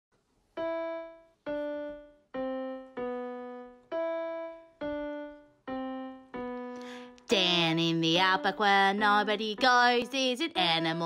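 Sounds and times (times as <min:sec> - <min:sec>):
slow keyboard melody: 0:00.2 - 0:11.0.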